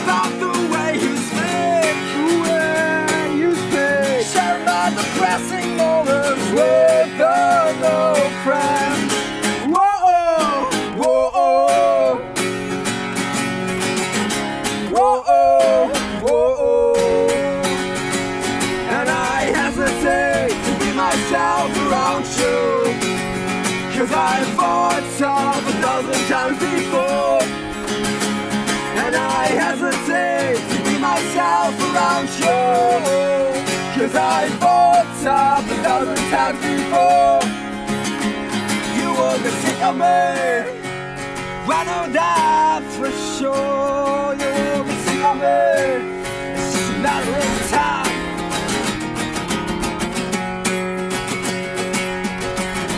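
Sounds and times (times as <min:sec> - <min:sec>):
acoustic guitars strumming: 0:00.0 - 0:52.9.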